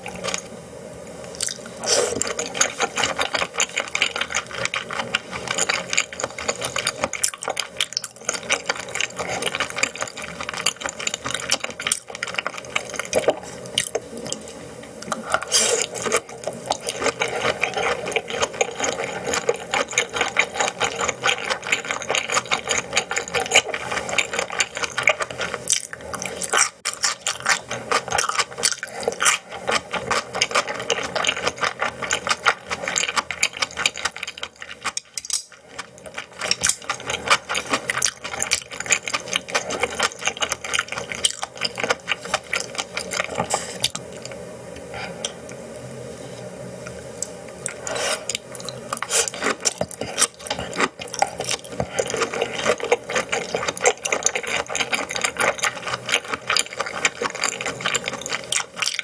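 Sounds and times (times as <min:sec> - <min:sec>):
wet chewing: 0:01.3 - 0:14.4, 0:15.0 - 0:44.4, 0:47.2 - 0:59.0.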